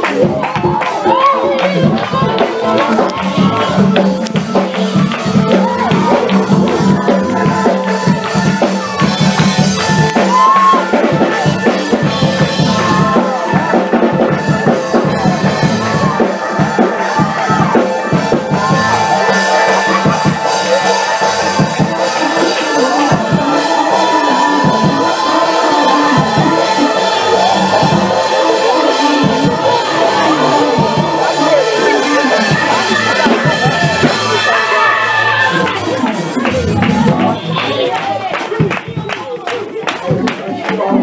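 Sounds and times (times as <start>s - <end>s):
fast driving drums: 0.0s - 41.0s
held keyboard chords: 0.0s - 41.0s.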